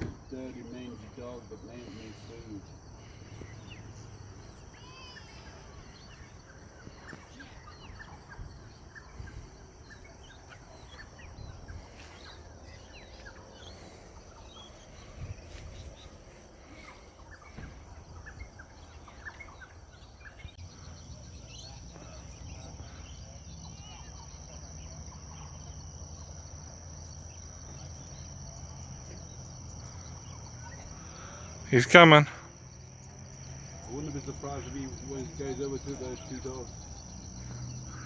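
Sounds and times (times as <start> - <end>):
birds chirping: 0.0 - 38.0
high insect drone: 0.0 - 38.0.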